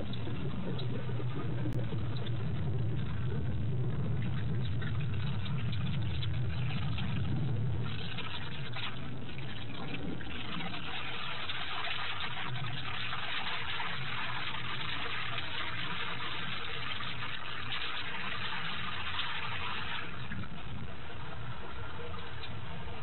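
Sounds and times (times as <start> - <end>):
rain falling on stone: 0.0 - 23.0.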